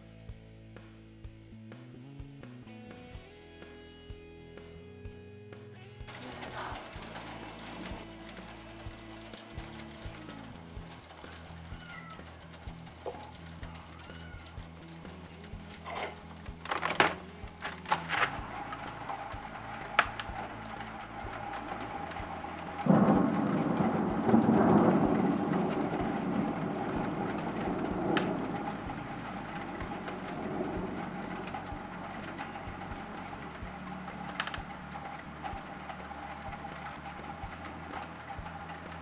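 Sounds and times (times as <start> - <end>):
sharp clicks: 6.1 - 39.0
thunder crack and rumble: 6.1 - 39.0.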